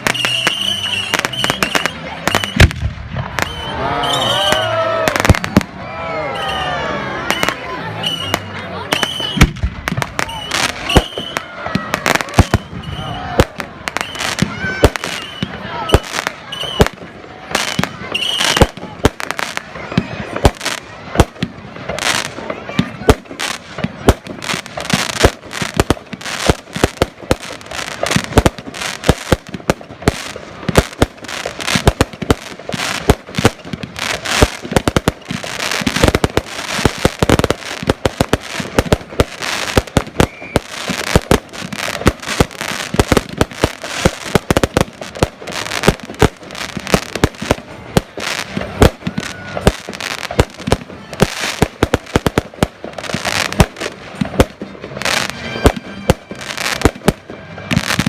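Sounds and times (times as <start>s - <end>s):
fireworks bangs and crackling pops: 0.0s - 5.8s, 6.5s - 58.0s.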